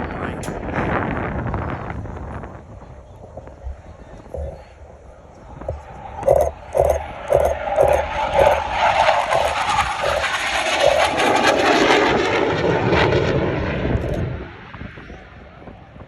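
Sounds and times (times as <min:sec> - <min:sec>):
aircraft passing low roar: 0:00.0 - 0:16.0.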